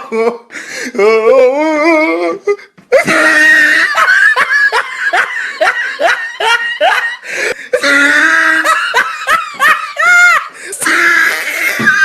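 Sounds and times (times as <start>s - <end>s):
person laughing: 1.9s - 12.0s.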